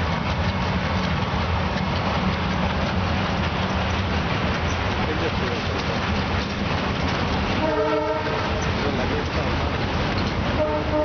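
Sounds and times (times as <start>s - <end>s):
train wheels rumbling on bridge: 0.0s - 11.0s.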